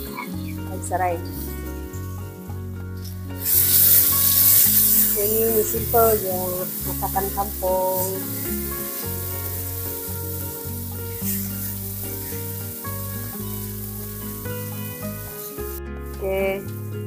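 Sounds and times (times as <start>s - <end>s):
background tune of held notes: 0.0s - 17.0s
food sizzling in hot oil: 2.9s - 17.0s.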